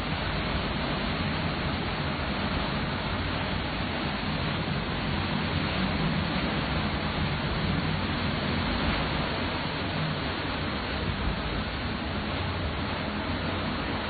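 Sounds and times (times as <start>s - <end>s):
driving rain: 0.0s - 14.0s
hurricane wind: 0.0s - 14.0s.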